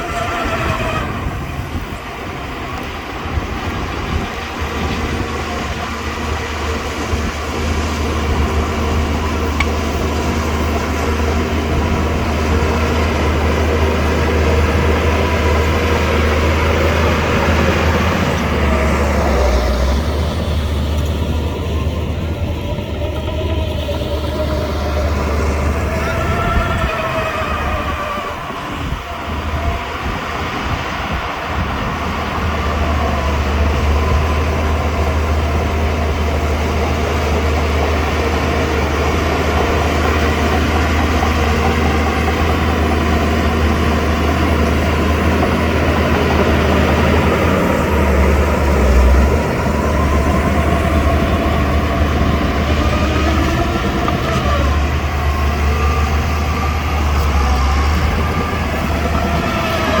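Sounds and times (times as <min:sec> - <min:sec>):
bulldozer diesel engine: 0:00.0 - 1:00.0
steel tracks clattering and squealing: 0:00.0 - 1:00.0.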